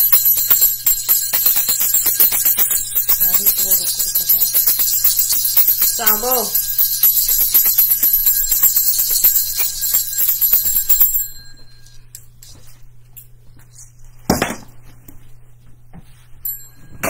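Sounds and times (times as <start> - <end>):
small bells jingling: 0.0 - 13.3, 16.4 - 17.0.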